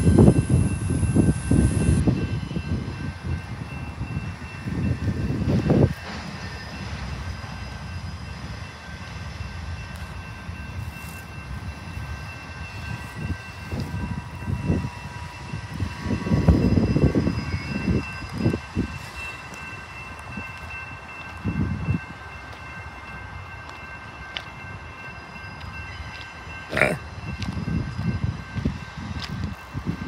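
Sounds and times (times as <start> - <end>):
freight train rumbling by: 0.0 - 30.0
train wheel squeal: 0.0 - 30.0
wind buffeting microphone: 0.0 - 30.0.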